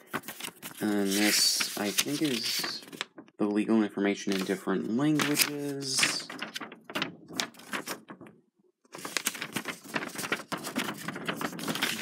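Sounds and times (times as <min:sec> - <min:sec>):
paper leaflet rustling: 0:00.0 - 0:03.4, 0:04.2 - 0:12.0.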